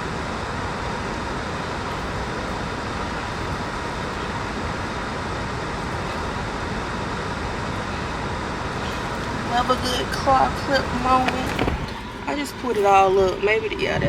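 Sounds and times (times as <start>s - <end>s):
faint hum: 0.0s - 14.0s
steady rushing noise: 0.0s - 14.0s.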